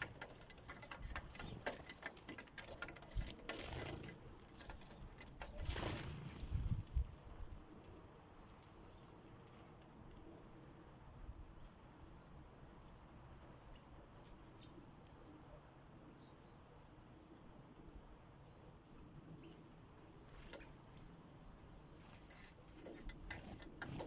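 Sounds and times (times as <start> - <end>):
small birds chirping: 0.0 - 7.1, 7.9 - 24.0.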